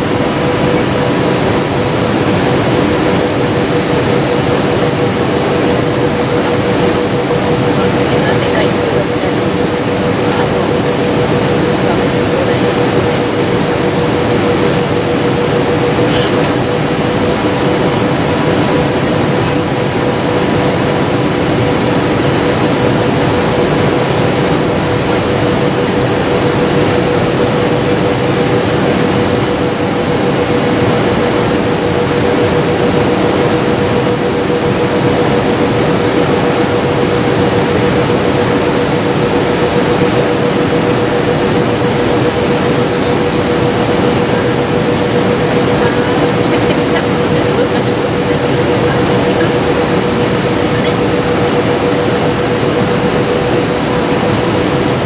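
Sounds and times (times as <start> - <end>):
constant hum: 0.0 - 55.0
jet engines in cabin: 0.0 - 55.0.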